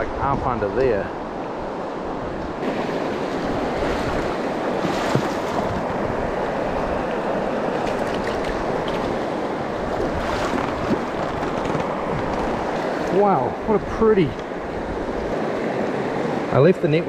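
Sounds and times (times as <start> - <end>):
river water rushing over stones: 1.9 - 16.6.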